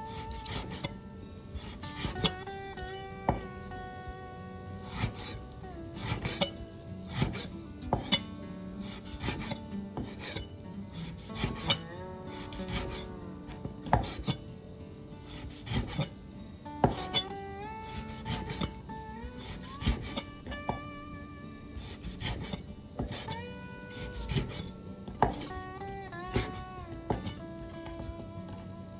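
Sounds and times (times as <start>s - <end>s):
music with sliding notes: 0.0s - 28.9s.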